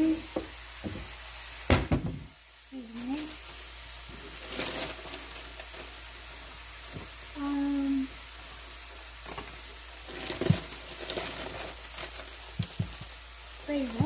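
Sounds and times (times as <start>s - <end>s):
mushrooms sizzling in a pan: 0.0s - 14.0s.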